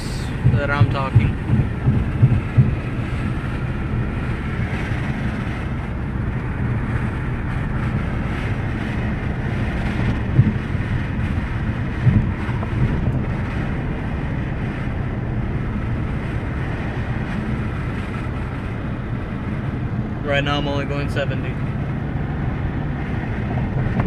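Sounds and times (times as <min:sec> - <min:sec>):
cabin wind noise: 0:00.0 - 0:24.0.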